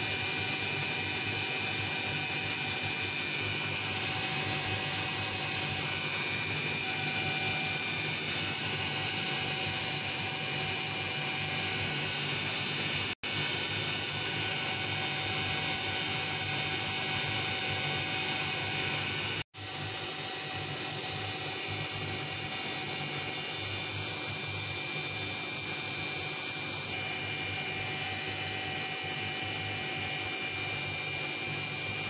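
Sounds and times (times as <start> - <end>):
laser engraver machine hum: 0.0 - 32.0.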